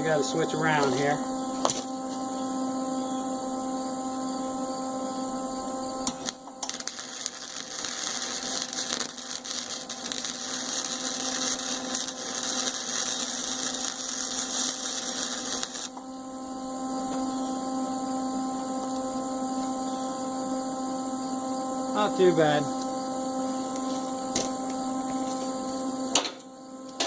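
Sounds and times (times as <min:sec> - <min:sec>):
electrical hum: 0:00.0 - 0:27.0
welding arc crackling: 0:00.0 - 0:27.0.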